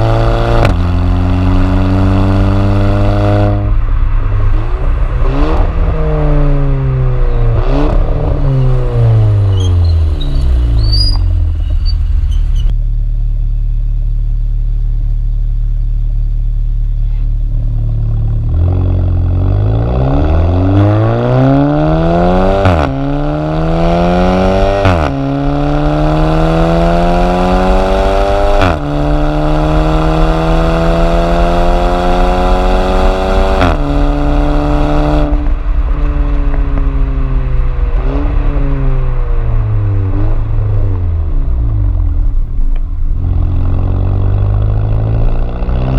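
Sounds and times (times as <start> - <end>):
car engine accelerating hard: 0.0 - 12.7, 17.1 - 45.9.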